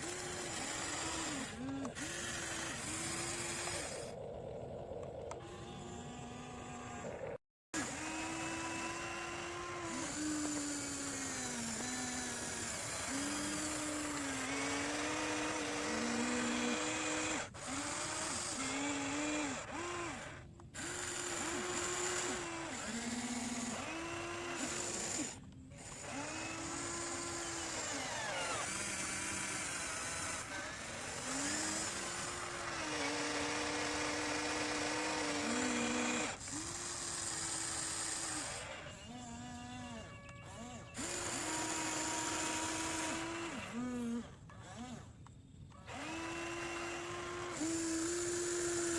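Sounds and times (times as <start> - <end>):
electric motors whining: 0.0 - 48.9.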